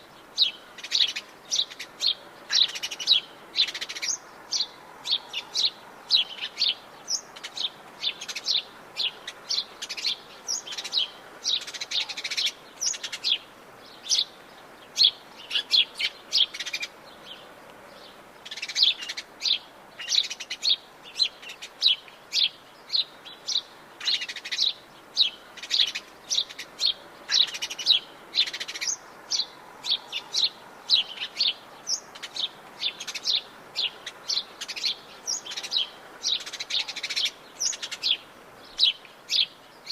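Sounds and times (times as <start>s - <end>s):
faint background hiss: 0.0s - 39.9s
birds chirping and singing: 0.1s - 39.9s.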